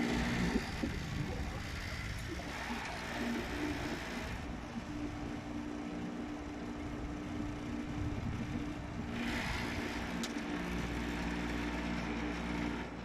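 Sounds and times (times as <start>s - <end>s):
air conditioner motor hum: 0.0s - 13.0s.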